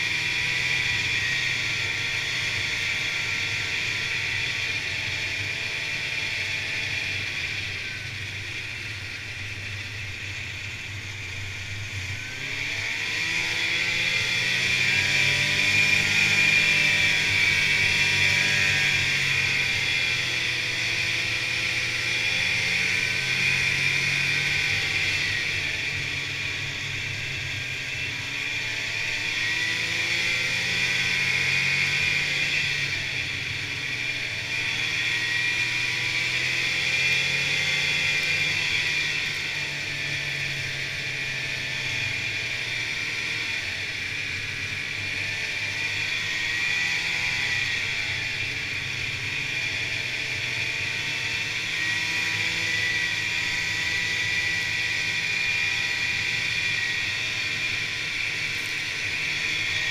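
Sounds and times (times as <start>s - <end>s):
snowmobile engine running: 0.0s - 59.9s
steady high whine: 0.0s - 59.9s.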